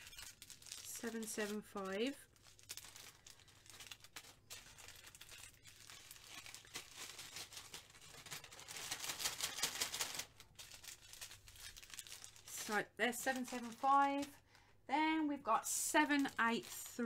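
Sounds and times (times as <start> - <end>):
plastic bags crinkling: 0.0 - 14.6, 15.4 - 17.0.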